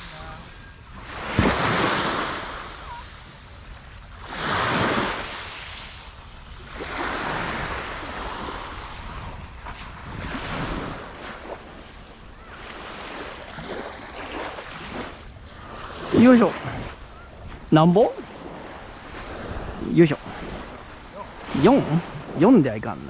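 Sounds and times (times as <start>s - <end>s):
wind on microphone: 0.0s - 12.7s, 13.4s - 22.6s
small waves breaking on sand: 0.0s - 23.0s.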